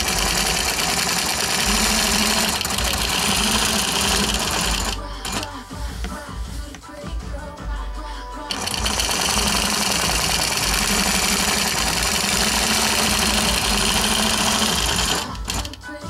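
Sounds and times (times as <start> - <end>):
sewing machine stitching: 0.0 - 5.5, 8.5 - 15.9.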